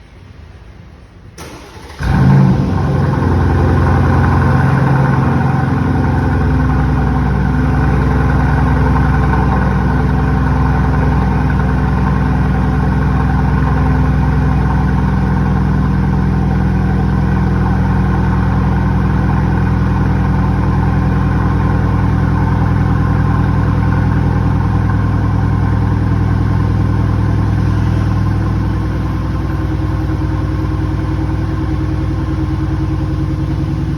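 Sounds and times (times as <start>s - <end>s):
car engine idling: 1.4s - 33.9s.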